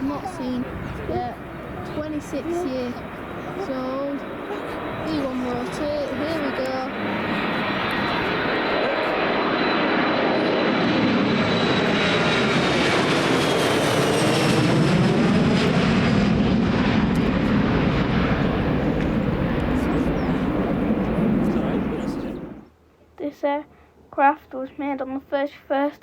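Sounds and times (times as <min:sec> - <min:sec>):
high engine whine: 0:00.0 - 0:22.7
jet engines at takeoff: 0:00.0 - 0:22.7.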